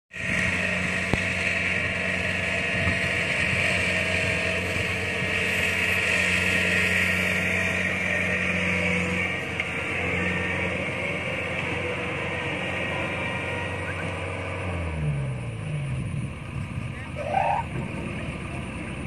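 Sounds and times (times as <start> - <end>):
combine harvester engine humming: 0.1 - 19.0.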